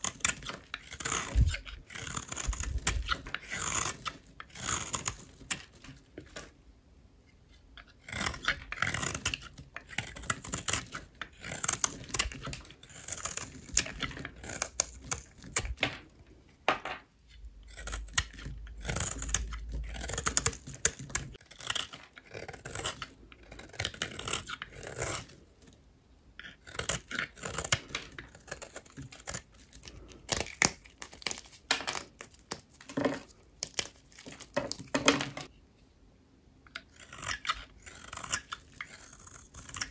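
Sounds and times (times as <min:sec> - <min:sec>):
blade cutting through soap: 0:00.0 - 0:06.6, 0:07.3 - 0:15.9, 0:17.4 - 0:25.8, 0:26.4 - 0:35.5, 0:36.7 - 0:39.9.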